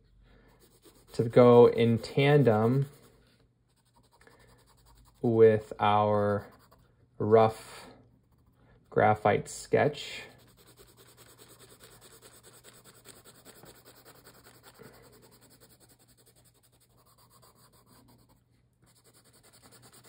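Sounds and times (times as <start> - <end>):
pencil scratching on paper: 0.6 - 6.9, 10.2 - 20.0.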